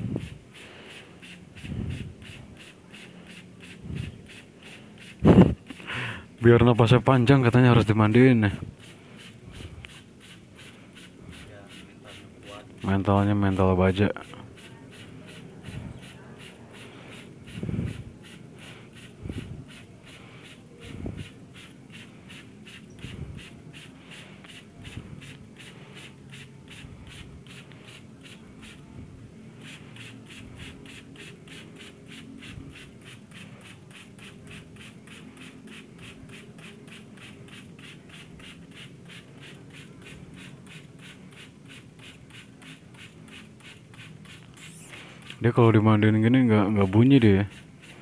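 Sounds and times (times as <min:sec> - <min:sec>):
trigger spray bottle misting: 0:00.0 - 0:06.9, 0:08.1 - 0:13.7, 0:14.3 - 0:28.9, 0:29.5 - 0:45.5.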